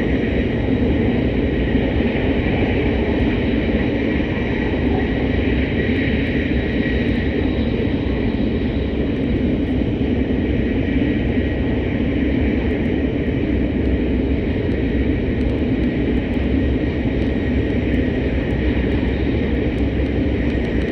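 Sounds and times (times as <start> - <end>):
train rumble and rushing: 0.0 - 20.9.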